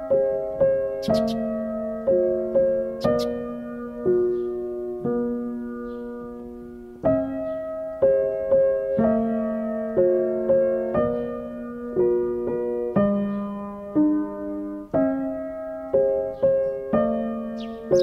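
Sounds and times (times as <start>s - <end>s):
slow gentle piano music: 0.0s - 18.0s.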